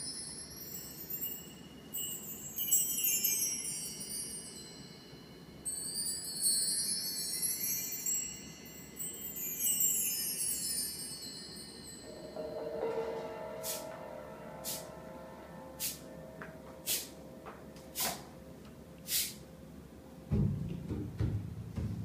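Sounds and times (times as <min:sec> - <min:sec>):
bar chimes tinkling: 0:00.0 - 0:17.8.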